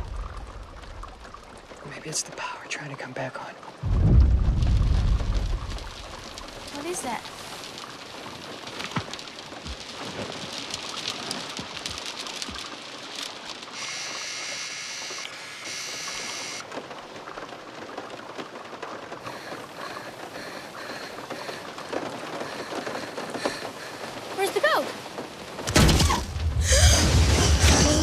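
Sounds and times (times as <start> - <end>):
heavy rain on car roof: 0.0 - 28.0.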